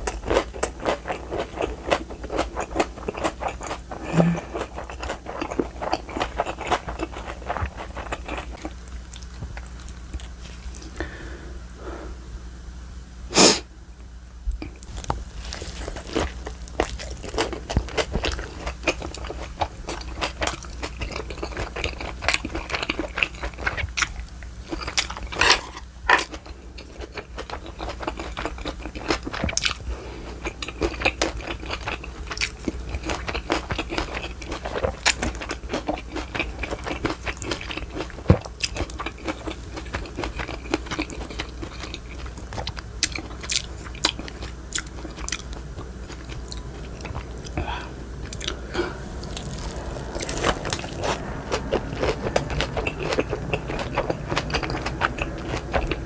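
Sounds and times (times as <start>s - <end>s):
person chewing food: 0.0s - 11.2s, 14.6s - 56.0s.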